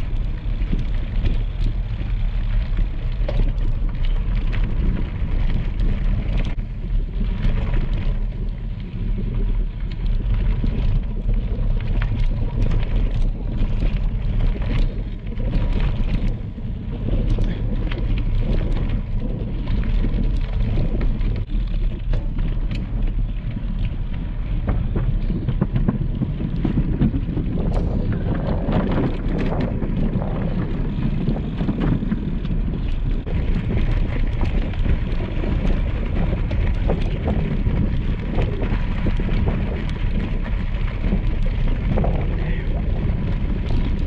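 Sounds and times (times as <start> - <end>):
bicycle tyres crunching on gravel: 0.0 - 44.0
wind buffeting microphone: 0.0 - 44.0.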